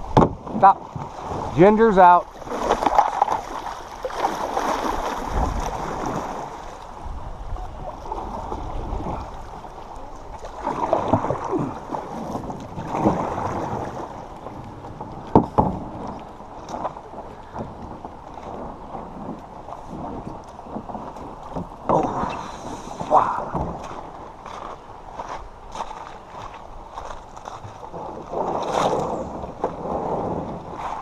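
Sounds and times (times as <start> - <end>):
water splashing around canoe: 0.0 - 31.0.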